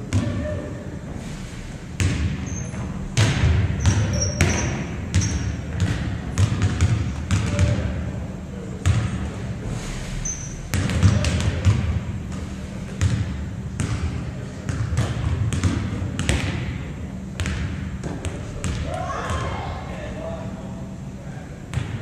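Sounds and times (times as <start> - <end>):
volleyballs bouncing on gym floor: 0.0 - 0.8, 2.0 - 9.5, 10.6 - 19.7, 21.7 - 22.0.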